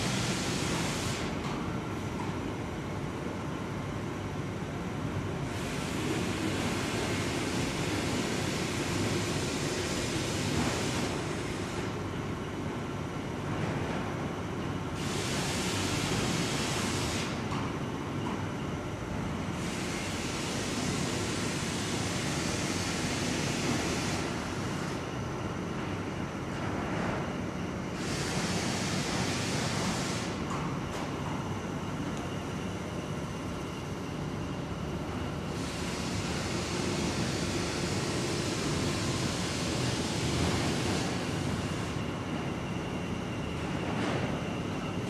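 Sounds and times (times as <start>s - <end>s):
factory machinery noise: 0.0s - 45.0s.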